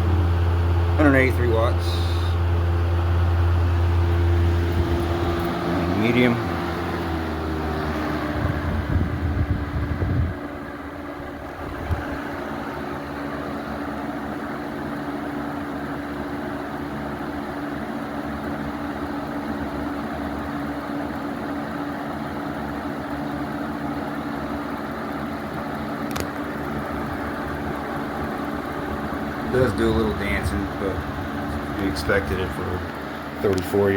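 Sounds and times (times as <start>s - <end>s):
fan motor hum: 0.0s - 33.9s.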